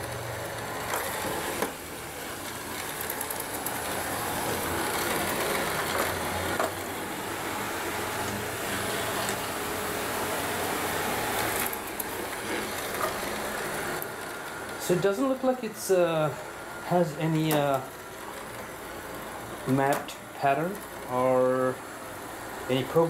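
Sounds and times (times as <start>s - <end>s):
robot vacuum cleaner humming: 0.0s - 23.0s.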